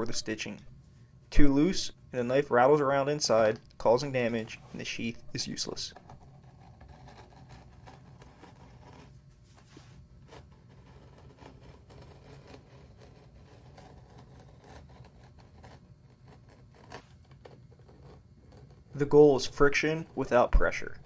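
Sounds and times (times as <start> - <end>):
low steady hum: 0.0 - 21.0
hand tools scraping leather: 3.2 - 21.0.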